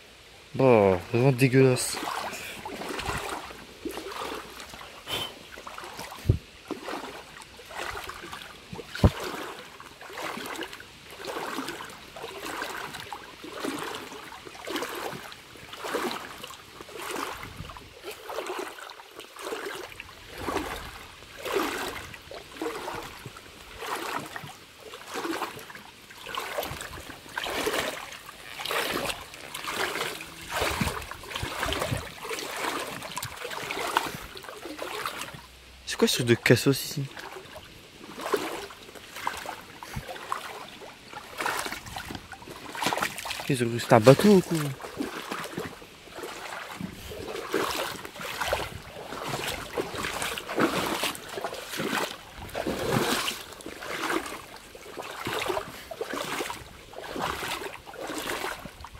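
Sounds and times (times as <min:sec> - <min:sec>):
river water splashing: 0:00.0 - 0:58.9.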